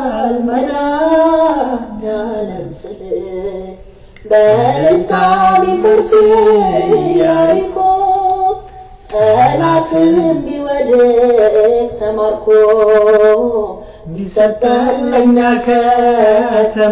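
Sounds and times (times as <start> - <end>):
man singing a hymn solo: 0.0 - 16.9.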